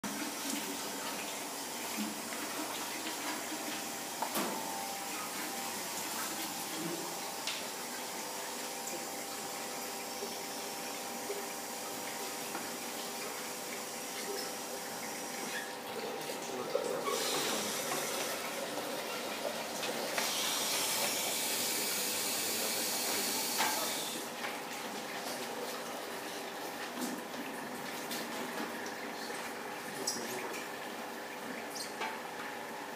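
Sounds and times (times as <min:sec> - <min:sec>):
water running through hoses: 0:00.0 - 0:32.4.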